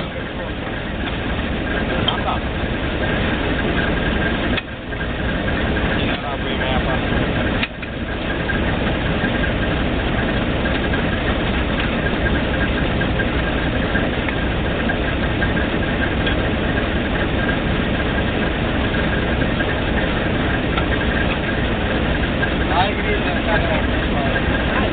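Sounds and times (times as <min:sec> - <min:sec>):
drilling rig engine running: 0:00.0 - 0:24.9.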